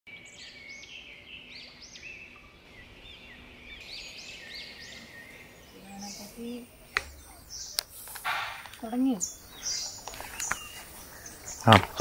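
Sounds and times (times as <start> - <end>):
birds chirping: 0.1 - 12.0
outdoor background hiss: 0.1 - 12.0.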